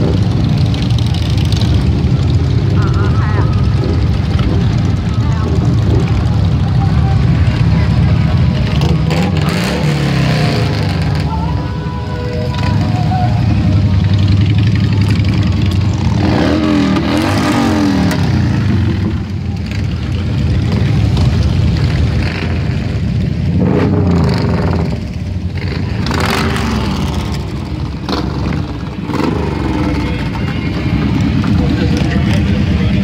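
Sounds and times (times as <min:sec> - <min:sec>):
motorcycles riding past: 0:00.0 - 0:33.0.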